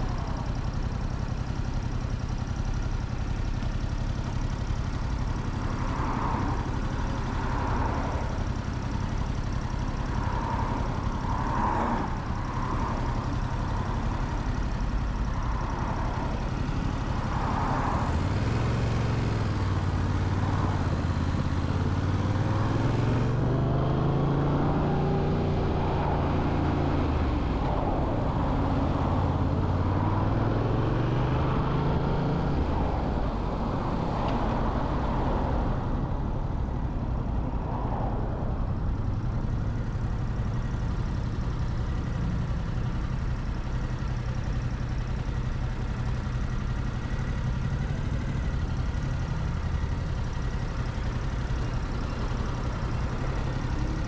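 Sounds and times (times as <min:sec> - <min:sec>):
motorcycle engine running: 0:00.0 - 0:33.6, 0:38.6 - 0:54.0.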